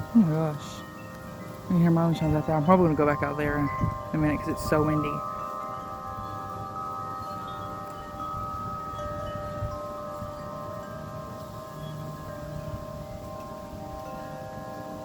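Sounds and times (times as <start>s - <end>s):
wind chimes ringing: 0.0s - 15.0s
wind rumble on microphone: 0.0s - 15.0s.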